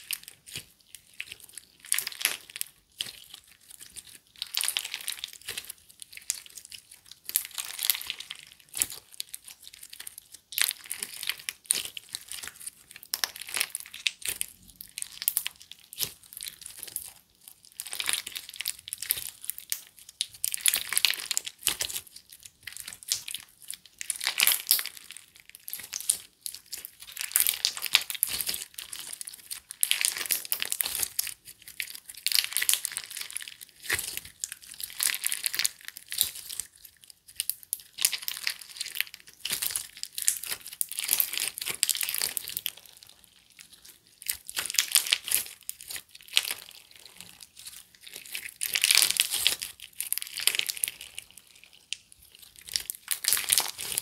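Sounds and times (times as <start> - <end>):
slime squishing and crackling: 0.0 - 54.0.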